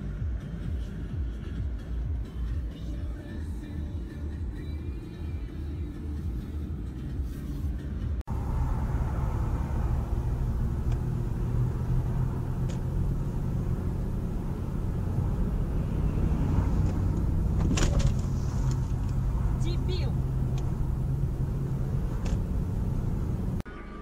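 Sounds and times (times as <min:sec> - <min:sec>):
car driving low rumble: 0:00.0 - 0:23.7.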